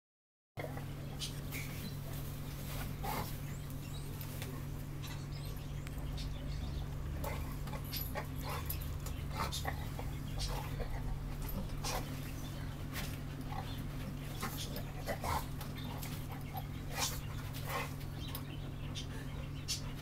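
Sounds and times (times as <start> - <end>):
low hum: 0.6 - 20.0
dogs whimpering and panting: 3.0 - 20.0.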